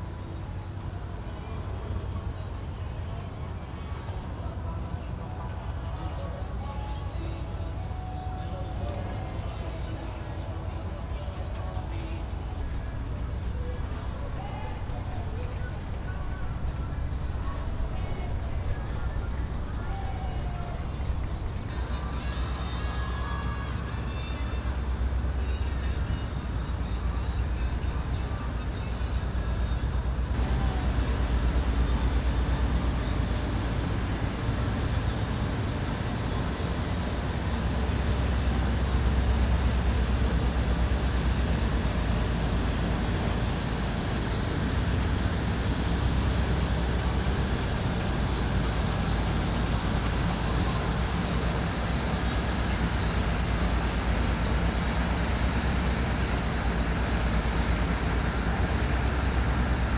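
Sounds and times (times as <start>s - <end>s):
boat engines rumbling: 0.0s - 59.9s
city noise: 0.0s - 59.9s.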